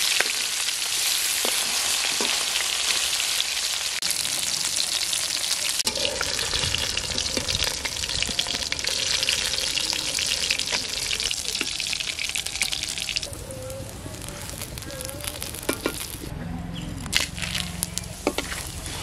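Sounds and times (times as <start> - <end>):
fish sizzling in oil: 0.0 - 16.3.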